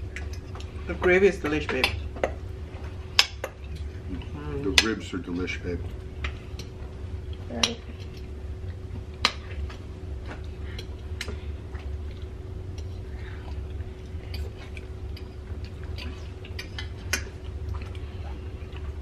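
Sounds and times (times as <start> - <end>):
low hum: 0.0 - 19.0
soft chewing: 0.0 - 19.0.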